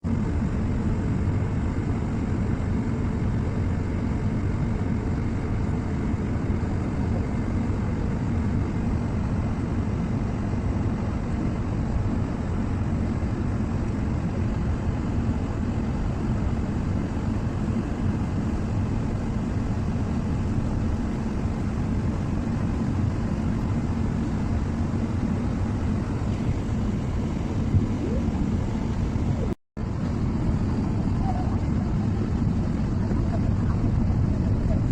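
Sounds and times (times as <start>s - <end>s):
jet cabin engine and airflow rush: 0.0s - 34.9s.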